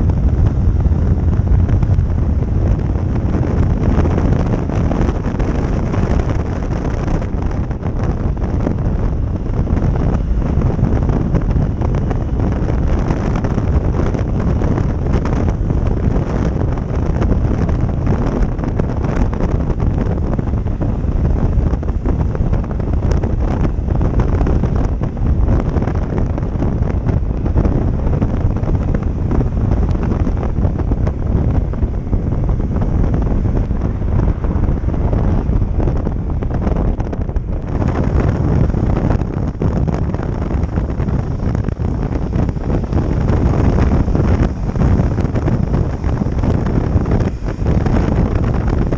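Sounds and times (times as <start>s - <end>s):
motorcycle engine running: 0.0s - 48.9s
road noise: 0.0s - 48.9s
wind rushing over microphone: 0.0s - 48.9s.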